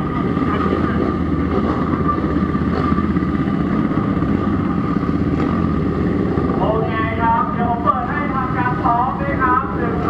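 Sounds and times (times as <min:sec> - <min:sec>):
motorcycle engines running: 0:00.0 - 0:10.0.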